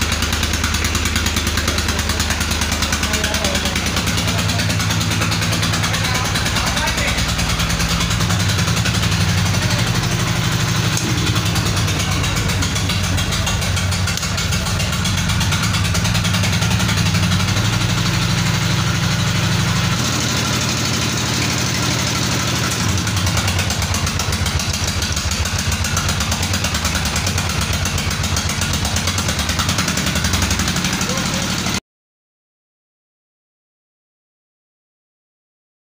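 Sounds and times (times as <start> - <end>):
diesel engine running: 0.0 - 31.8.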